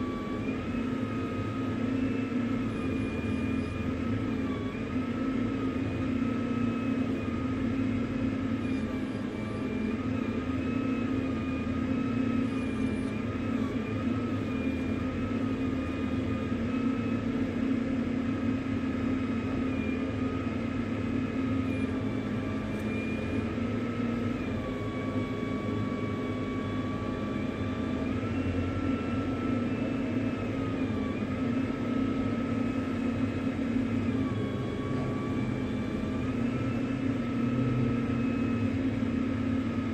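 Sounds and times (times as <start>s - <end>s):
high engine whine: 0.0s - 39.9s.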